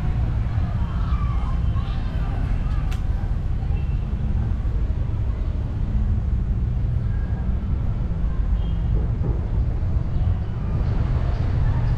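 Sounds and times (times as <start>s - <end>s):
low city rumble: 0.0s - 11.9s.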